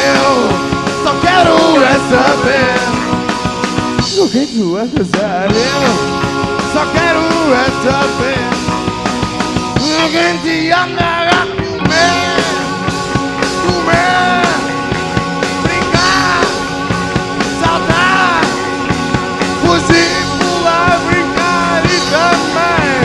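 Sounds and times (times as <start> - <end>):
drums keeping time: 0.0 - 23.0
live rock band playing: 0.0 - 23.0.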